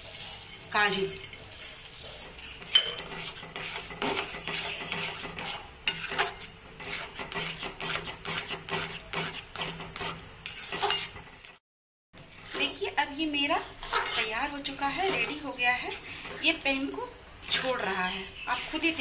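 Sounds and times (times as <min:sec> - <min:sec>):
metal spoon scraping pan: 0:00.1 - 0:11.6, 0:12.2 - 0:19.0.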